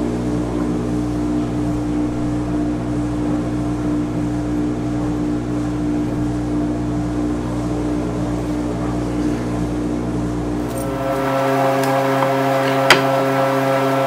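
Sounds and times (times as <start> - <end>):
electric motor humming: 0.0 - 14.0.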